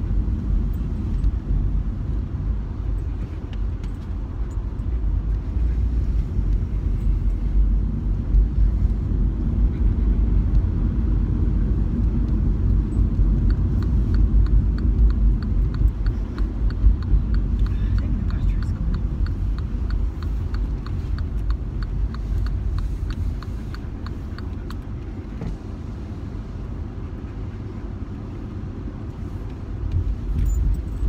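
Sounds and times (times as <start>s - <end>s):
car road noise rumble: 0.0s - 31.0s
turn signal ticking: 0.1s - 31.0s.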